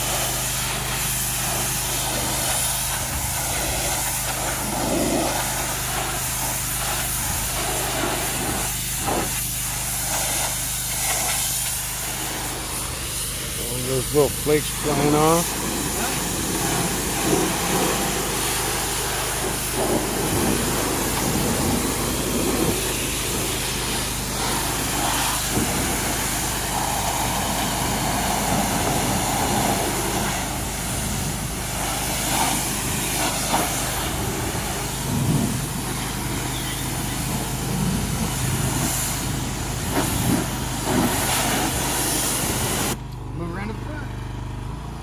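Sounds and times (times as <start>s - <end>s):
pressure washer spraying: 0.0s - 43.0s.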